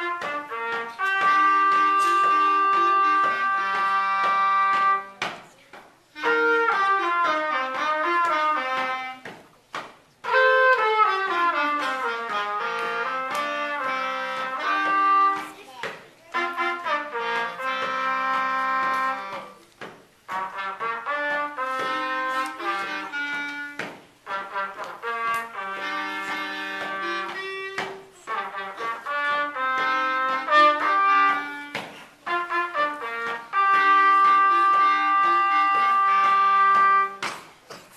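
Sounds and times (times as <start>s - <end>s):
two saxophones playing a duet: 0.0s - 5.2s, 6.1s - 9.4s, 10.2s - 15.4s, 16.2s - 37.3s.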